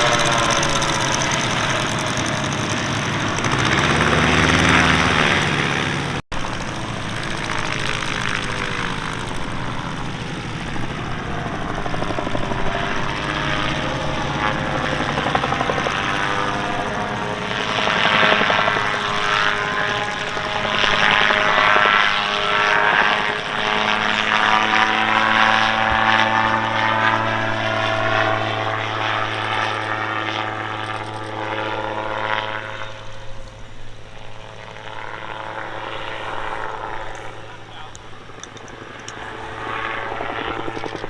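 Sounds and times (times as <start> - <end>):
aircraft engine and propeller: 0.0 - 41.0.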